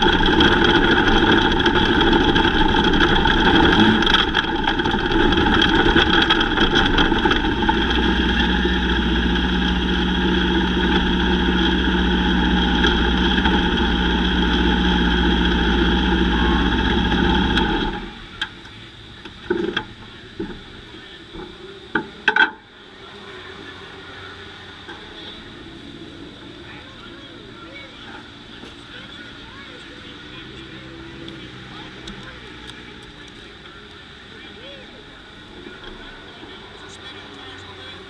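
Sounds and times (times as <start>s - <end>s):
racing car engines running: 0.0s - 38.0s.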